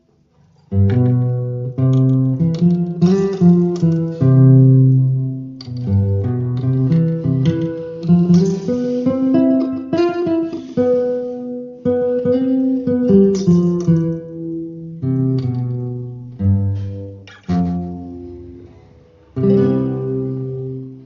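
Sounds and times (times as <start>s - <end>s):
guitar chords strummed and plucked: 0.6s - 21.0s.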